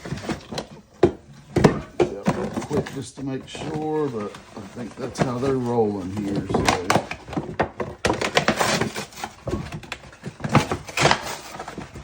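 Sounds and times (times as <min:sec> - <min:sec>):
cans scraping cardboard box: 0:00.0 - 0:12.0.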